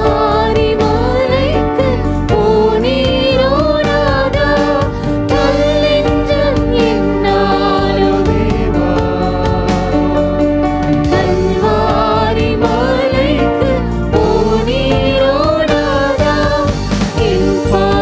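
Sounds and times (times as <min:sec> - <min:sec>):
instrumental accompaniment: 0:00.0 - 0:18.0
voices singing worship song: 0:00.0 - 0:18.0.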